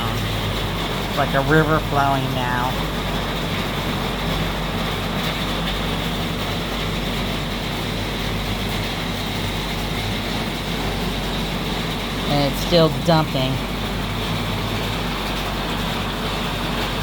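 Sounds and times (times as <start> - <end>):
floodwater rushing along street: 0.0 - 17.0
heavy rain: 0.0 - 17.0.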